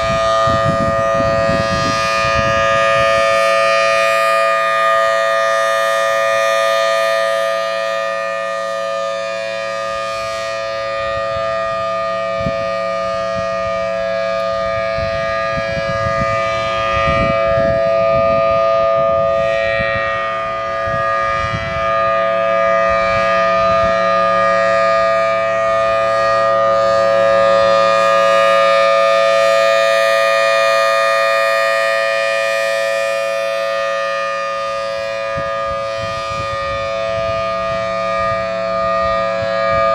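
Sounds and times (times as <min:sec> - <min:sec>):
civil defense siren steady tone: 0:00.0 - 0:39.9.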